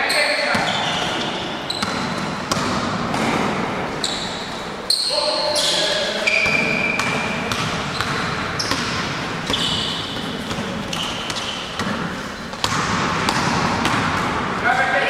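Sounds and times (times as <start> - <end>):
basketball bouncing on gym floor: 0.0 - 4.8, 5.6 - 14.9
sneakers squeaking on court: 0.0 - 14.6.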